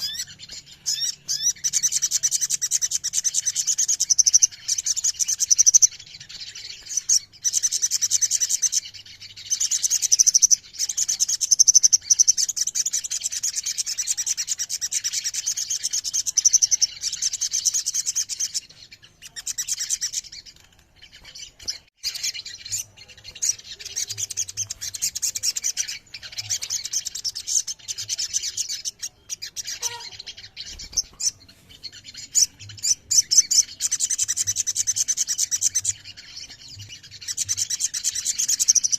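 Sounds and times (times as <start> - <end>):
birds chattering trills: 0.0 - 38.9.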